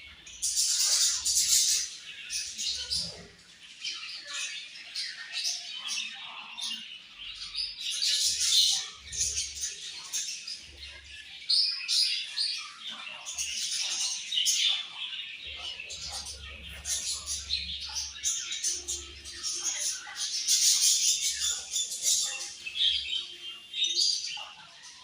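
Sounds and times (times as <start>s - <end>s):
budgerigars chirping: 0.0s - 25.0s.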